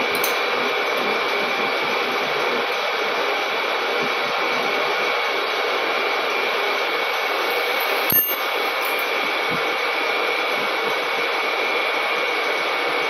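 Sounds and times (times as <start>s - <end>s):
lathe whirring with high whine: 0.0s - 13.0s.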